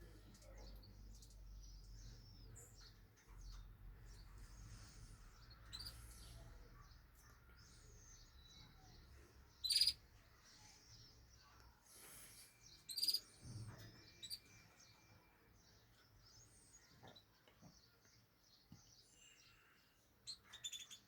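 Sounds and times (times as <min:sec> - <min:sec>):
cage birds chirping: 0:00.0 - 0:21.0.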